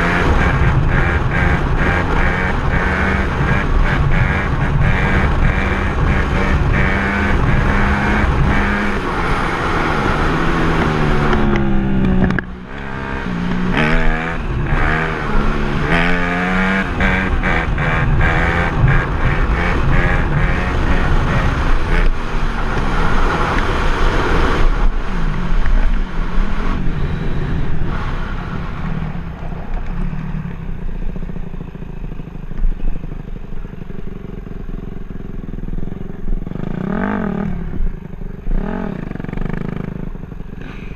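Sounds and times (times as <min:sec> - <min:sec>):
dirt bike engine revving: 0:00.0 - 0:30.4, 0:35.5 - 0:40.9.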